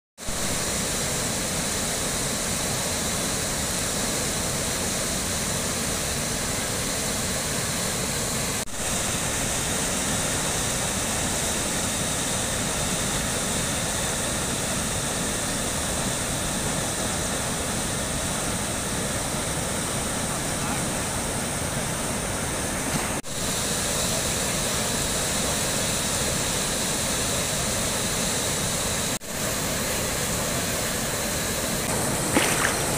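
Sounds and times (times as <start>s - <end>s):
turbulent water rushing over weir: 0.2s - 32.9s.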